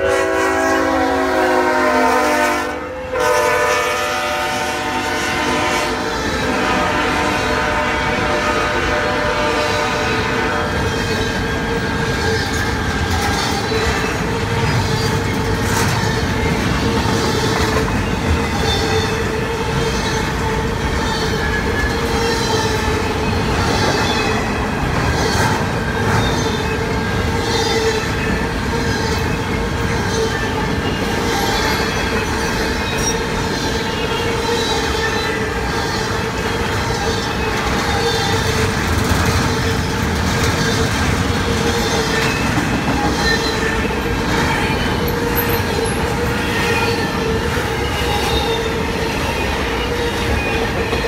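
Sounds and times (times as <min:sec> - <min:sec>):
freight wheels rumbling on rail: 0:00.0 - 0:51.0.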